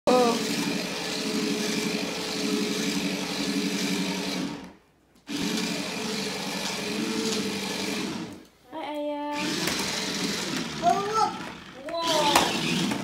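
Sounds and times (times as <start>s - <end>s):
toy car motors whirring: 0.1s - 8.5s, 9.4s - 13.0s.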